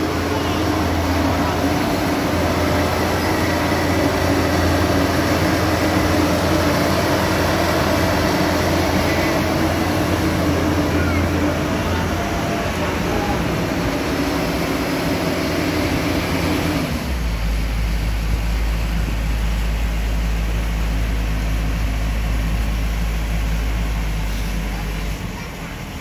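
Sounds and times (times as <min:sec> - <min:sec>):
combine harvester engine running: 0:00.0 - 0:26.0.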